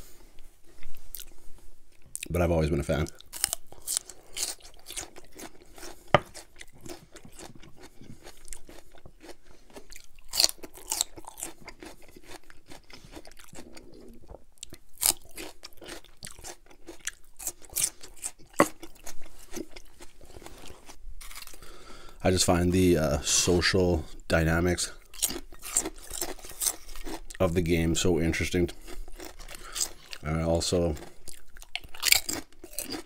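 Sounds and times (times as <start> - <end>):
celery crunching while chewed: 3.0 - 21.8, 25.0 - 33.0.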